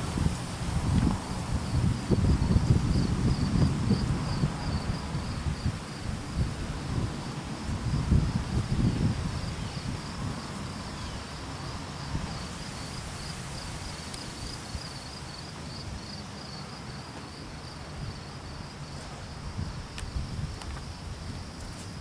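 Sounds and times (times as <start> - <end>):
wind rumbling on microphone: 0.0 - 22.0
insects chirping in a trill: 0.1 - 22.0.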